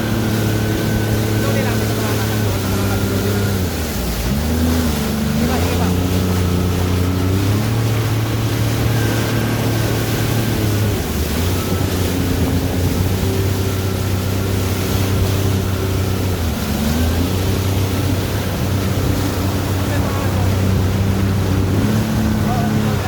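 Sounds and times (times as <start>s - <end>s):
jet ski engine running: 0.0s - 23.0s
steady rushing noise: 0.0s - 23.0s.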